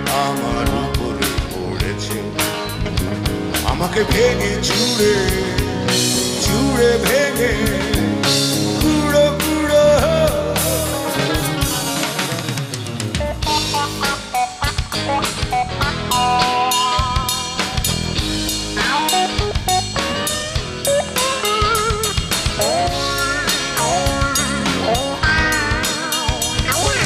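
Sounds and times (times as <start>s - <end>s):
drum kit beat: 0.0s - 27.0s
electric bass: 0.0s - 27.0s
electric lead guitar melody: 0.0s - 27.0s.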